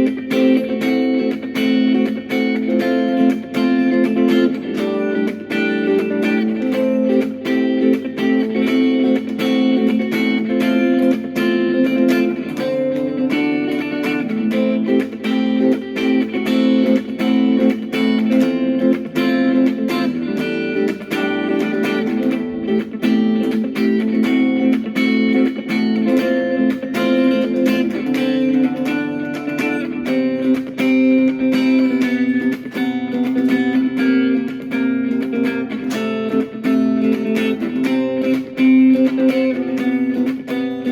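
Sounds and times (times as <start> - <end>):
instrumental guitar music: 0.0 - 40.9.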